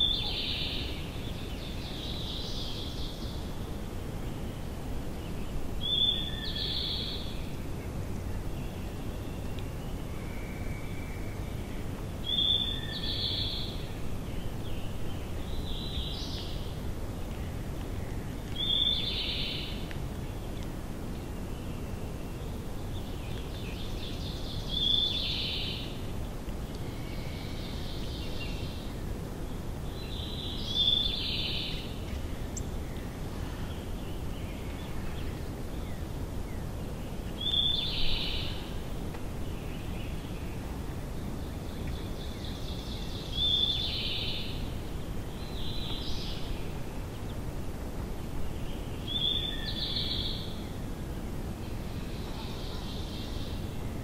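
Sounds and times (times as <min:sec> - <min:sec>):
outdoor background hiss: 0:00.0 - 0:54.0
songbird singing: 0:00.0 - 0:54.0.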